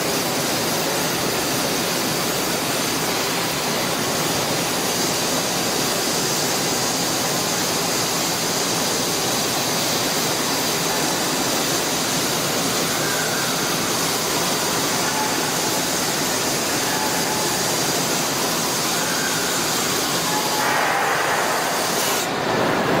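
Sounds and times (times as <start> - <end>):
industrial machinery rushing hiss: 0.0 - 23.0.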